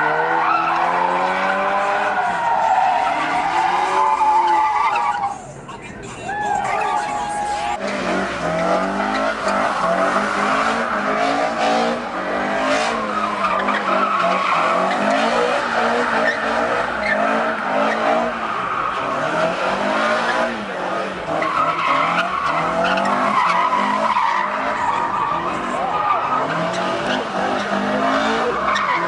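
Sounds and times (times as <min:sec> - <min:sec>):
car engine revving: 0:00.0 - 0:05.3, 0:06.7 - 0:29.0.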